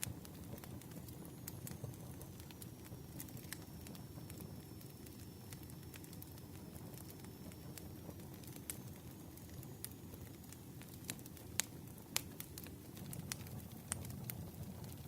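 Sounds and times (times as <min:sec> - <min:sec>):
campfire burning: 0:00.0 - 0:15.0.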